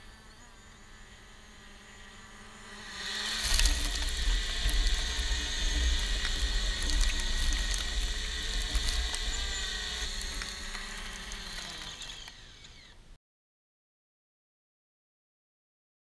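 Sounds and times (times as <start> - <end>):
drone motors whining: 0.0 - 13.2.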